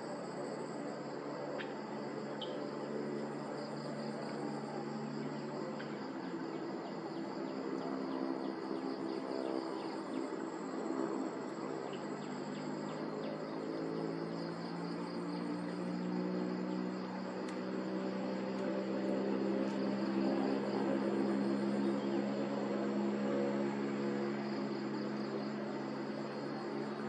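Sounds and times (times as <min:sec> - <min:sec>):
insects chirring: 0:00.0 - 0:27.0
low drone of held tones: 0:00.0 - 0:27.0.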